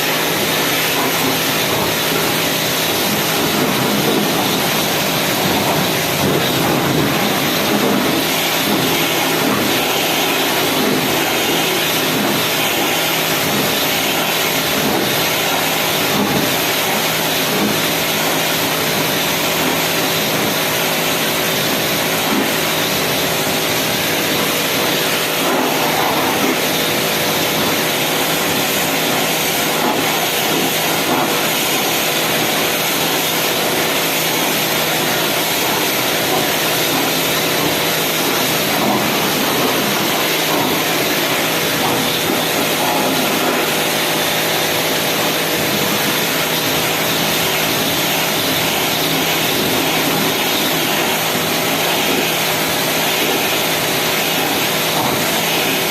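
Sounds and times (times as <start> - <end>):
machine motor hum with hiss: 0.0 - 55.9.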